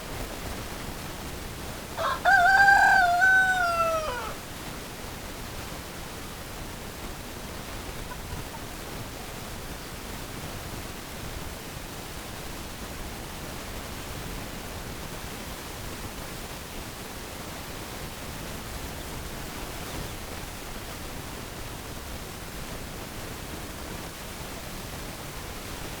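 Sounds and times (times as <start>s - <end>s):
steady broadband hiss: 0.0s - 26.0s.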